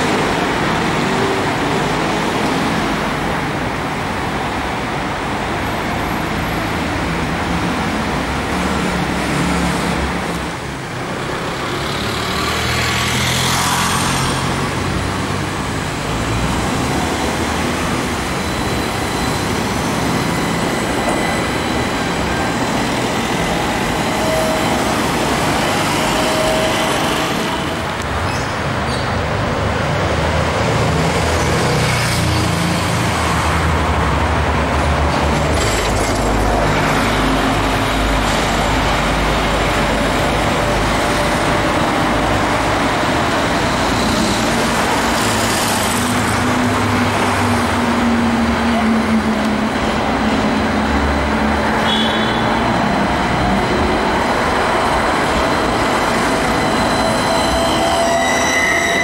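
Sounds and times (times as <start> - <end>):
road vehicles passing: 0.0 - 59.0
tram running on street tracks: 0.0 - 59.0.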